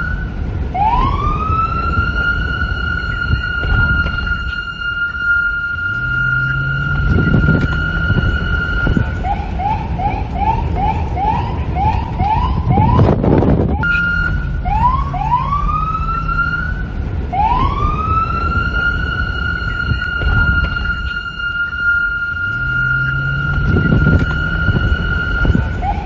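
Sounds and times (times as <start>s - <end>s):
police siren: 0.0s - 26.0s
traffic rumble: 0.0s - 26.0s
wind: 0.0s - 26.0s.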